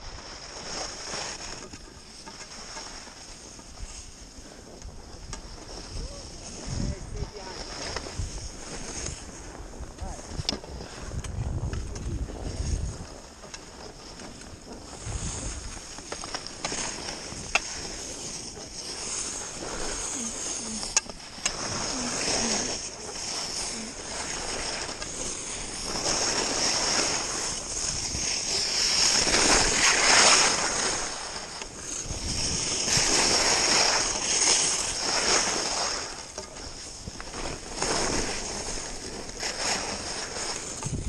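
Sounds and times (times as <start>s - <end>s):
skis scraping on snow: 0.0s - 41.0s
wind rushing over camera: 3.1s - 41.0s.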